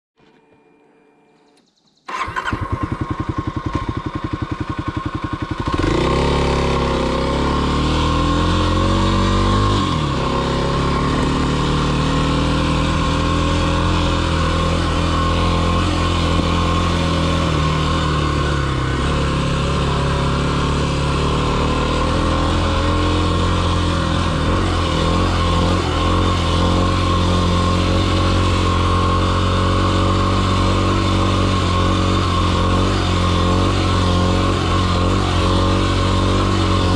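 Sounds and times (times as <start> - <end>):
dirt bike engine idling and revving: 1.5 - 36.9.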